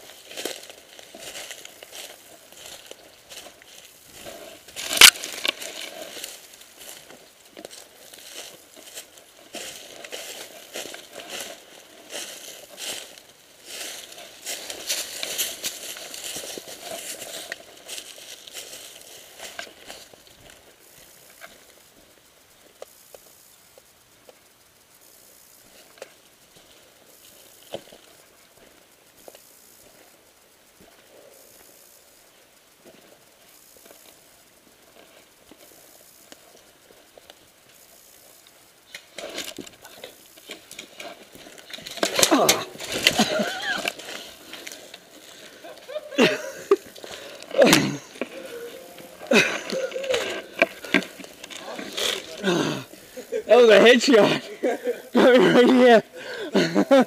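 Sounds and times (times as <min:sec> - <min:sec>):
dry leaves rustling and crackling: 0:00.0 - 0:23.8, 0:32.6 - 0:54.6.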